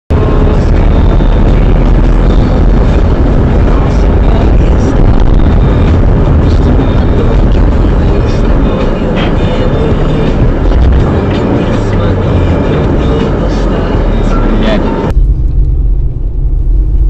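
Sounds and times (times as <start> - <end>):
car road and engine noise: 0.1 - 17.0.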